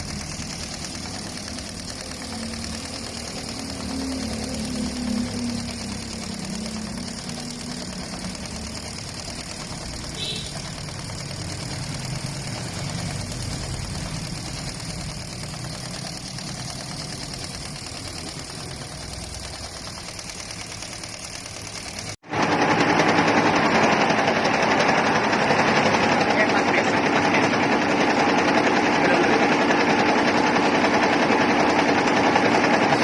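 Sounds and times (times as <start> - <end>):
embroidery machine stitching: 0.0 - 33.0.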